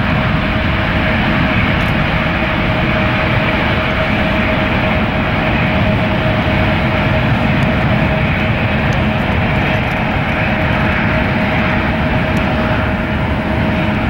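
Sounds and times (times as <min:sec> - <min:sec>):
jet engines whining: 0:00.0 - 0:14.0.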